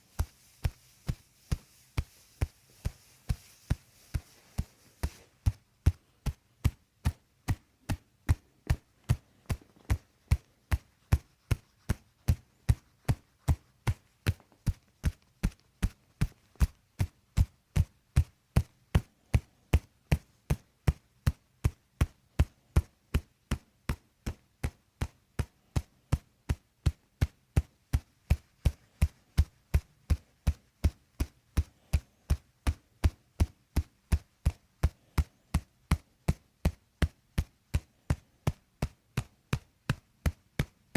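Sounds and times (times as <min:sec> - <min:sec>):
steady dull tapping: 0:00.0 - 0:40.9.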